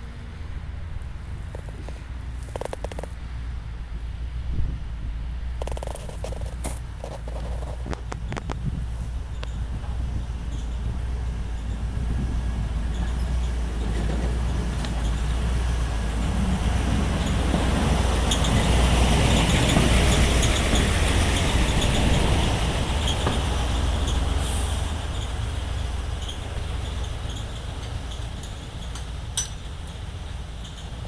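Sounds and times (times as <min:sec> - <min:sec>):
rail track machine rumbling: 0:00.0 - 0:31.0.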